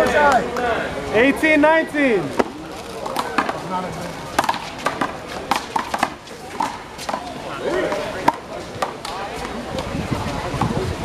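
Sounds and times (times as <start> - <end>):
voices of players: 0.0 - 11.0.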